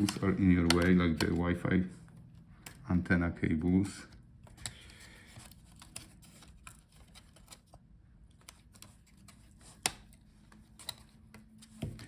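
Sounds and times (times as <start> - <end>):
hands handling laptop parts: 0.0 - 2.8, 3.5 - 12.0.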